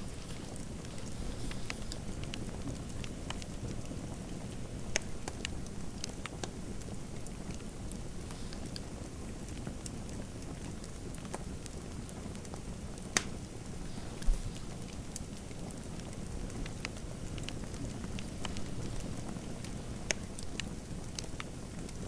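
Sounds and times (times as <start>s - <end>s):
fireplace crackling: 0.0s - 22.0s.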